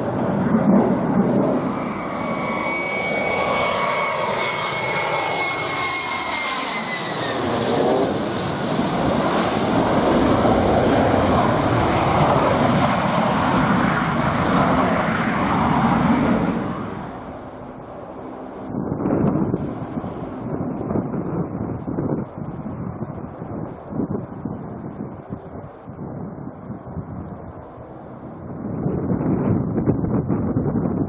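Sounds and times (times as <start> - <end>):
jet engine passing low: 0.0 - 31.0.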